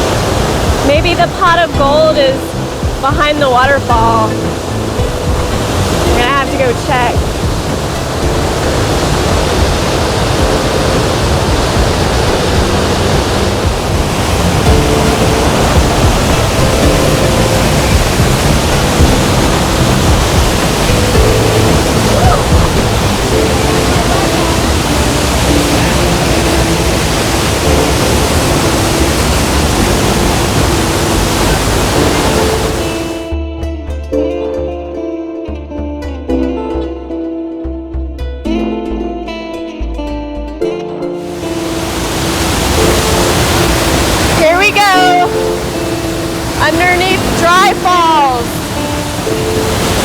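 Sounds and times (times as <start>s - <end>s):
waterfall rushing: 0.0s - 33.3s, 41.2s - 50.0s.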